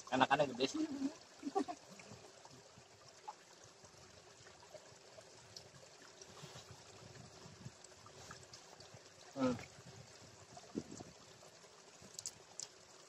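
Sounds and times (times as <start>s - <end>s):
faint river flowing: 0.0s - 13.0s.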